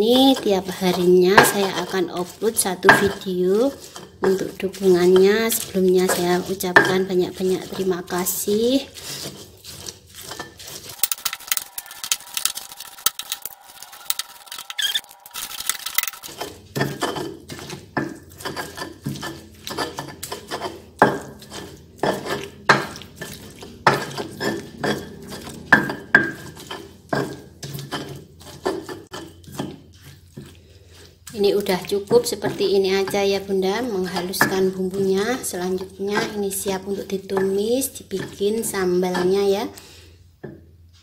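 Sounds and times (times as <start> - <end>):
stone pestle grinding in mortar: 0.0 - 39.6.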